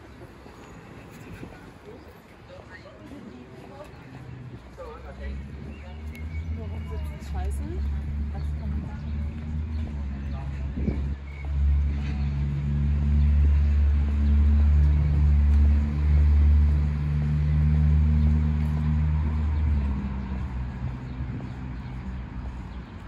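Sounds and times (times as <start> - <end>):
vehicle engine rumble: 3.3 - 23.0.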